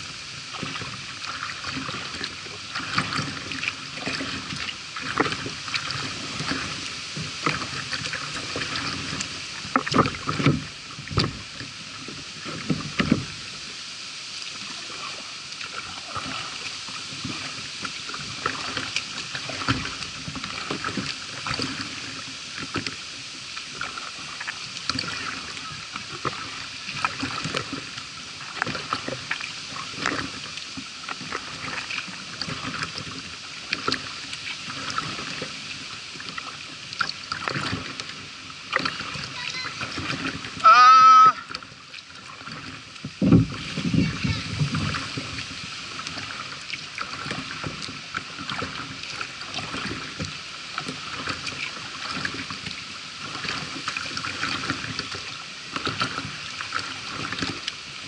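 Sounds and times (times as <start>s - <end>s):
paddle splashing water: 0.0s - 58.0s.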